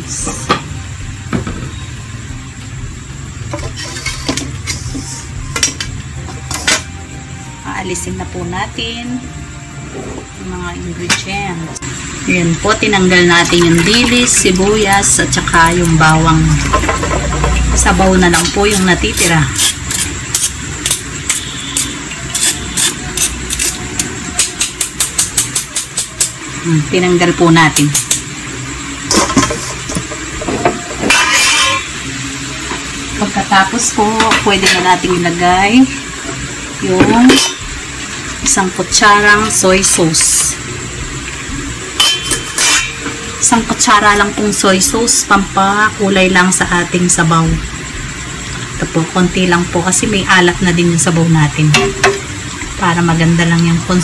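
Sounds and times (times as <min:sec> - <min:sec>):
pot boiling: 0:00.0 - 0:54.0.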